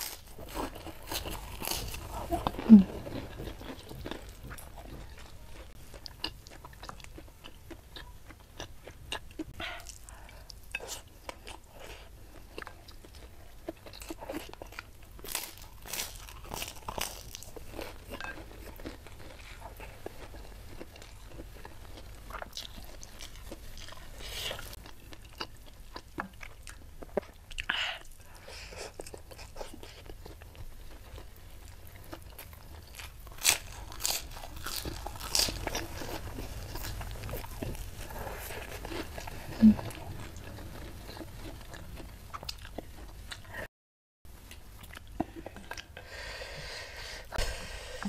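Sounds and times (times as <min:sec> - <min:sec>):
person chewing crunchy cracker: 0:00.0 - 0:43.7.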